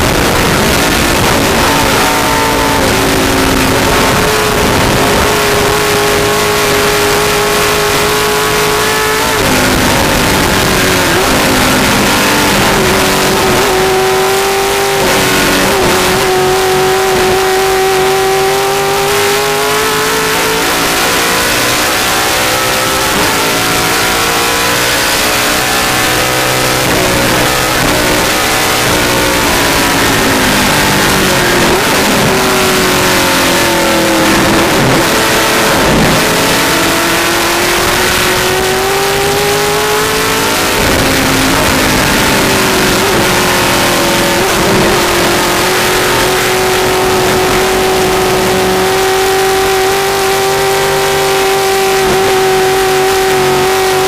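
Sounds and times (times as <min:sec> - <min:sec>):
race car engine revving: 0:00.0 - 0:54.0
wind and road noise: 0:00.0 - 0:54.0.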